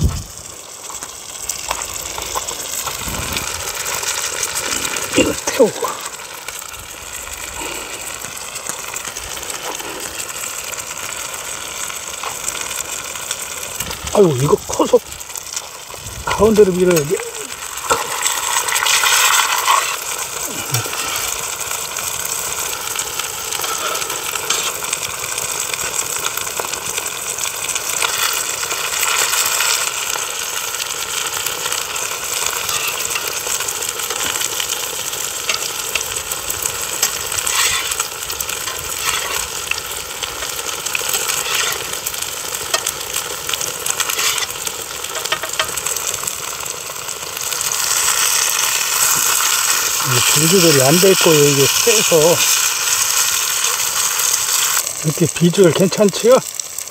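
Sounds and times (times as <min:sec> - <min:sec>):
fish frying in oil: 0:00.0 - 0:56.9.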